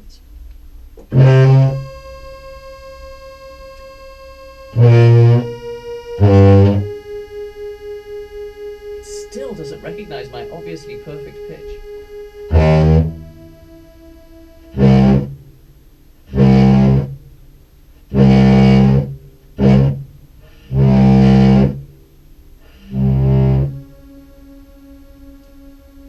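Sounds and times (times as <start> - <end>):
distorted low clarinet notes: 0.0 - 26.0
faint steady tone: 0.0 - 26.0.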